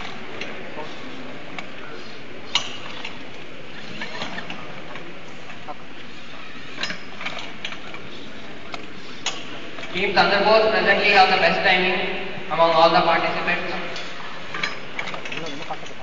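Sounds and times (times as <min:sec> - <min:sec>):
busy hall background noise: 0:00.0 - 0:16.0.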